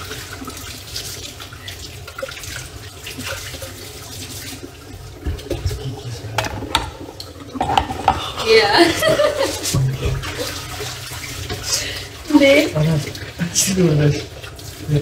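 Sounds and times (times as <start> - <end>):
water running: 0.0 - 15.0.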